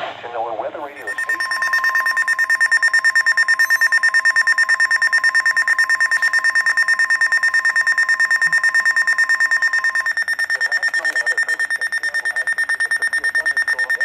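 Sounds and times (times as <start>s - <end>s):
steady warning alarm tone: 0.9s - 14.0s
rapidly pulsing high-pitched beep: 1.0s - 14.0s.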